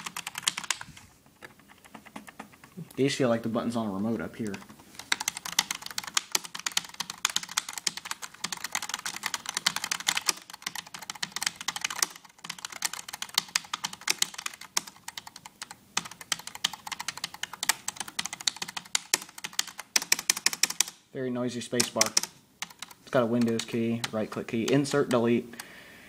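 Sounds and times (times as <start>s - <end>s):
keyboard keys clicking: 0.0s - 2.8s, 4.4s - 21.0s, 21.8s - 25.7s.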